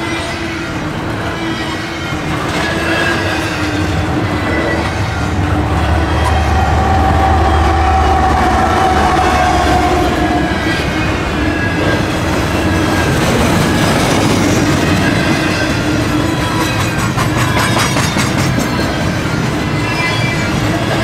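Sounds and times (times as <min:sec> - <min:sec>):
train wheels clacking on rails: 0:00.0 - 0:21.0
locomotive engine hum: 0:00.7 - 0:17.6.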